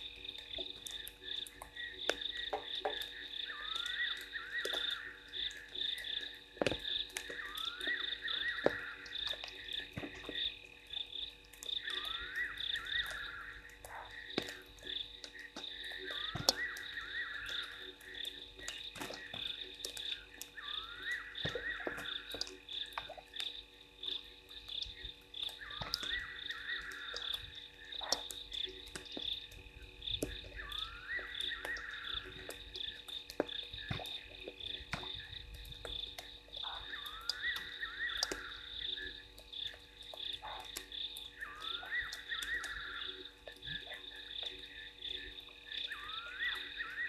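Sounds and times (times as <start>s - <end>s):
frogs trilling: 0.0s - 47.0s
raindrop ticks: 0.0s - 47.0s.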